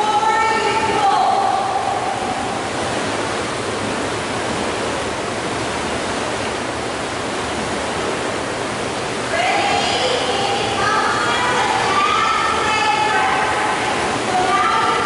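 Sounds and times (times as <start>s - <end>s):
churning water from paddling: 0.0s - 15.0s.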